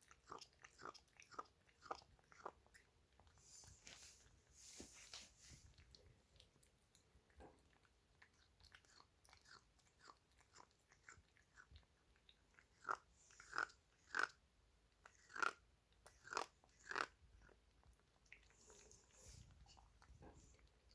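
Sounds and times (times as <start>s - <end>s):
pet crunching food: 0.0s - 20.9s.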